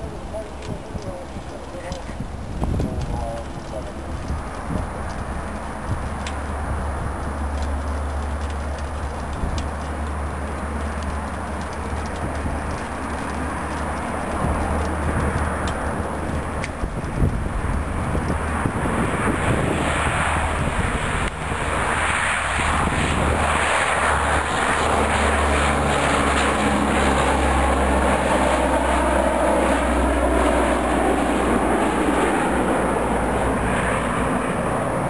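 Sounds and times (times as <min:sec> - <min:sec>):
turboprop aircraft engines drone: 0:00.0 - 0:35.0.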